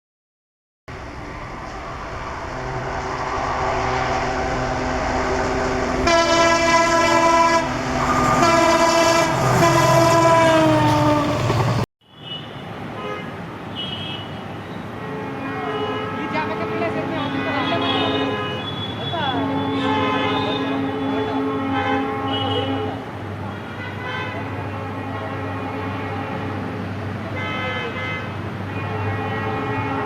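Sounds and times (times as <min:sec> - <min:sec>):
locomotive horn blasts: 0:00.9 - 0:11.6, 0:15.0 - 0:30.0
diesel locomotive engine rumble: 0:00.9 - 0:11.9, 0:15.2 - 0:30.0.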